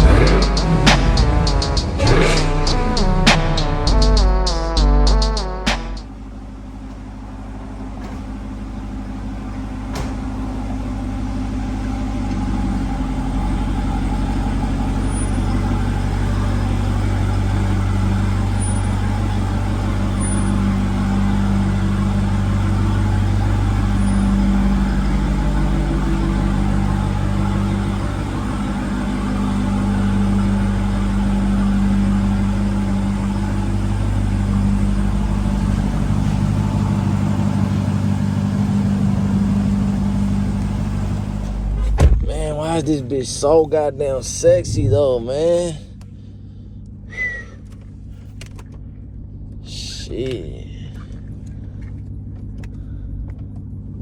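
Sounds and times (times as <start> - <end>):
car engine droning while driving: 0.0 - 54.0.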